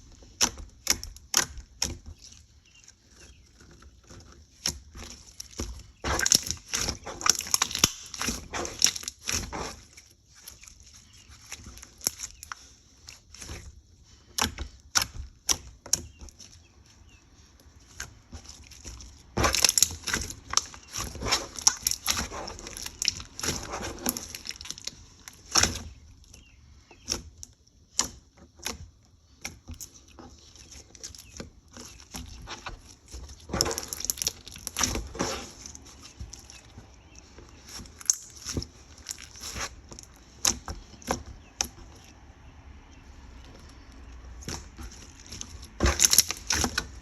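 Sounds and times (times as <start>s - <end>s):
slime crust crackling: 0.0s - 47.0s.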